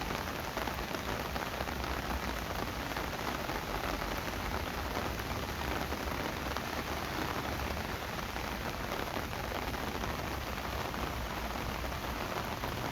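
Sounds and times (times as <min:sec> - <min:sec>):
rain pattering on hard surfaces: 0:00.0 - 0:12.9.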